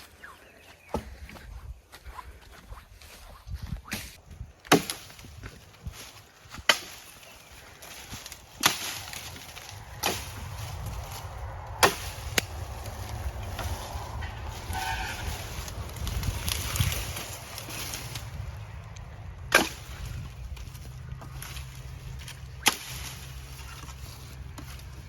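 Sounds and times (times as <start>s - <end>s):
firewood cracking: 4.4s - 25.0s.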